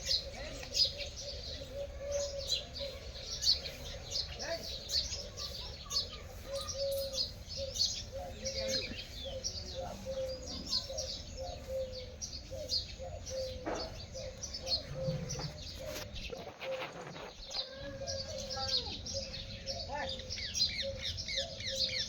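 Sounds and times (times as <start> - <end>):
birds chirping and twittering: 0.0 - 22.0.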